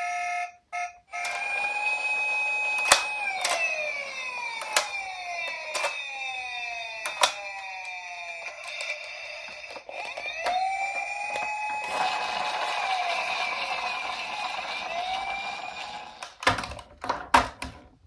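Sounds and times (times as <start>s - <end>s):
toy siren gliding down: 0.0s - 16.7s.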